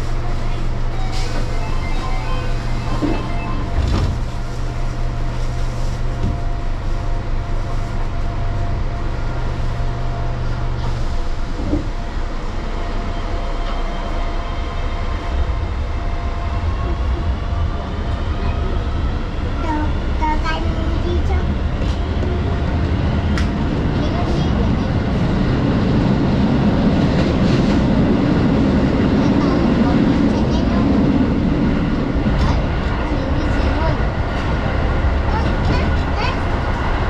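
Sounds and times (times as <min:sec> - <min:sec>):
low hum of train equipment: 0:00.0 - 0:37.0.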